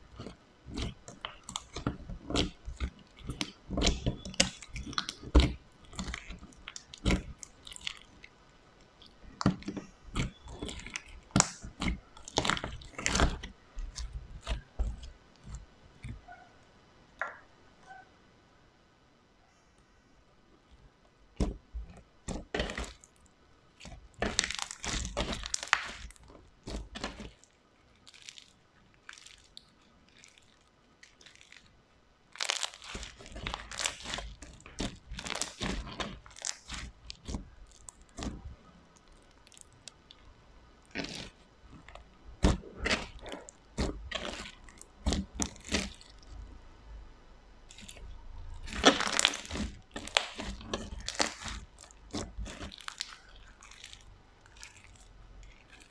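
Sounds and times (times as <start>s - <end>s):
slime clicking and crackling: 0.0s - 16.4s, 21.4s - 46.6s, 47.6s - 55.9s.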